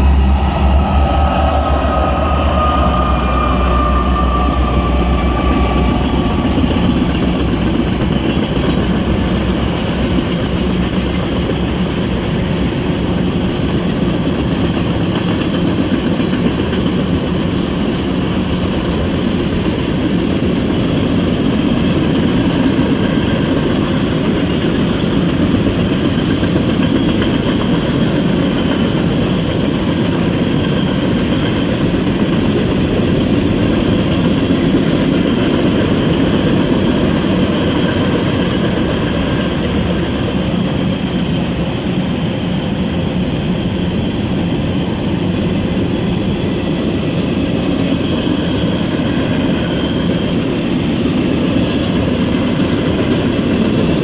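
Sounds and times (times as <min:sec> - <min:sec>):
diesel locomotive rumble: 0:00.0 - 0:54.0
train cars rolling on rails: 0:00.0 - 0:54.0.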